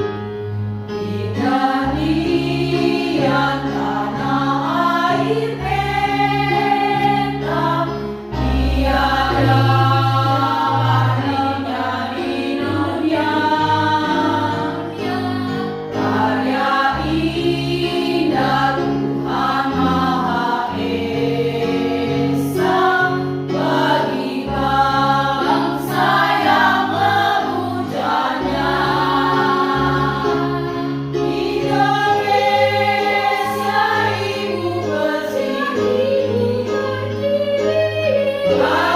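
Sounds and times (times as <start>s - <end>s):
choir singing in parts: 0.8s - 38.9s.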